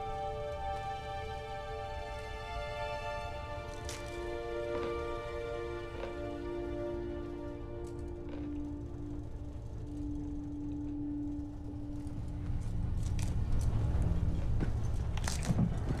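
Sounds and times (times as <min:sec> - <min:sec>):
held music note: 0:00.0 - 0:13.4
train rumbling: 0:00.0 - 0:16.0.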